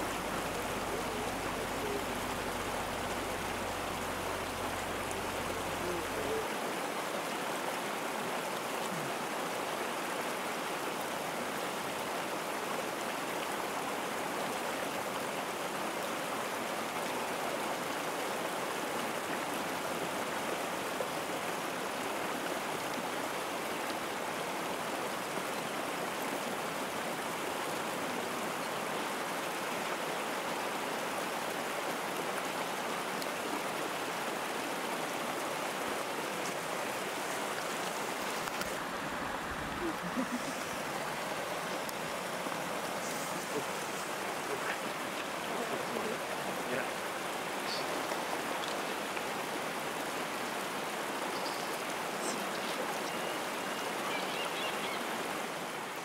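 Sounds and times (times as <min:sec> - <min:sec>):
creek rushing over stones: 0:00.0 - 0:56.0.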